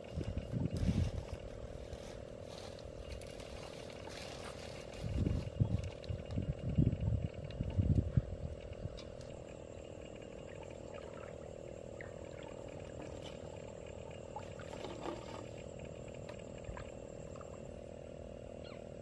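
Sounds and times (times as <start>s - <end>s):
faint scattered ticks: 0.0s - 17.9s
chorus of frogs: 0.0s - 19.0s.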